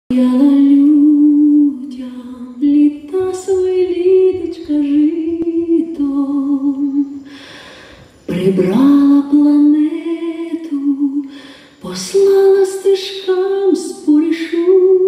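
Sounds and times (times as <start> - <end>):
woman singing wordless melody: 0.1 - 15.0.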